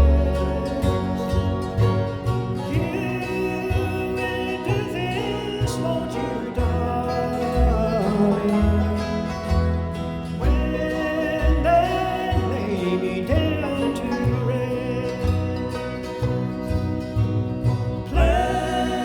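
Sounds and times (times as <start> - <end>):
bluegrass band playing: 0.0 - 19.0.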